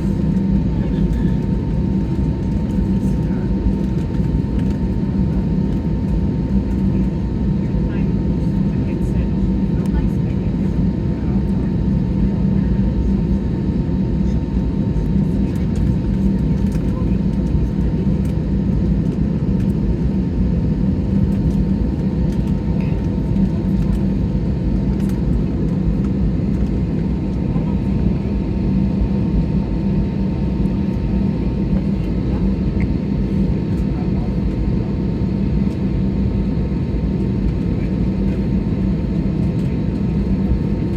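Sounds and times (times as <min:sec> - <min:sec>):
jet engines idling: 0:00.0 - 0:40.9.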